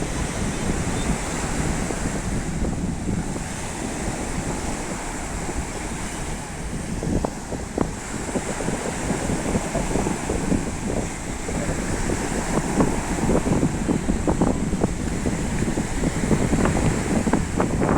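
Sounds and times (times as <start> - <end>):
sea waves washing in: 0.0 - 17.9
wind buffeting microphone: 0.0 - 17.9.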